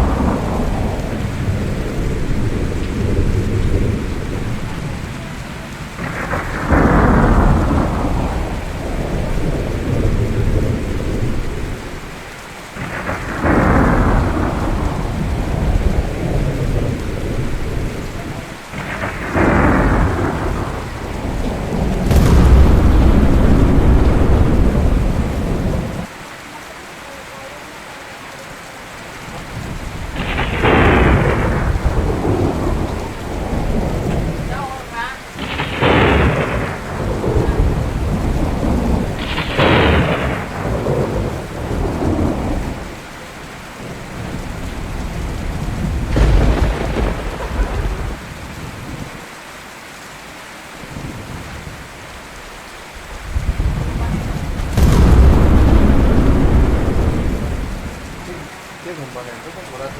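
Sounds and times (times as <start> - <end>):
thunder cracking and rumbling: 0.0 - 26.1, 29.3 - 49.2, 52.9 - 58.6
steady rain: 0.0 - 59.9.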